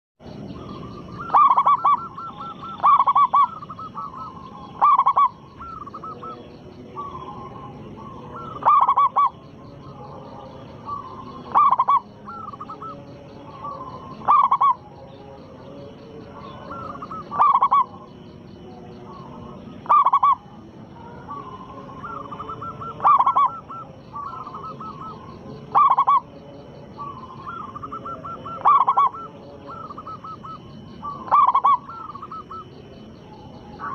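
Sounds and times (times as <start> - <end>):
doves cooing: 0.4 - 33.9.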